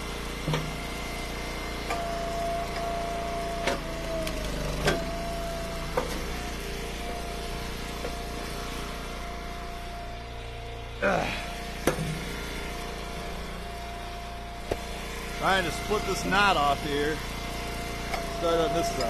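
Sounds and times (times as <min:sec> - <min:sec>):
wood splitter engine running: 0:00.0 - 0:19.0.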